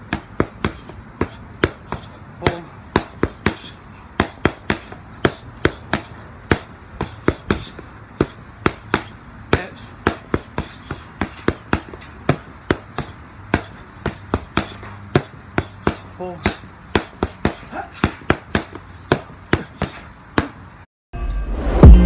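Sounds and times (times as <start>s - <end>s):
boxing gloves slapping focus mitts: 0.0s - 20.7s.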